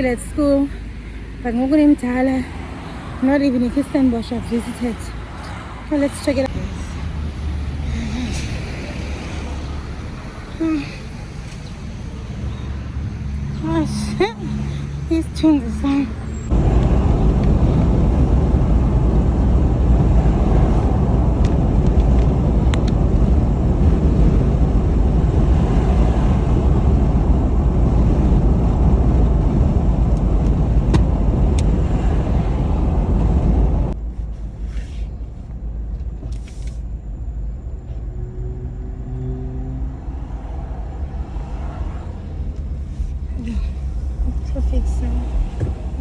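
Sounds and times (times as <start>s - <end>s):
car road and engine noise: 0.0s - 46.0s.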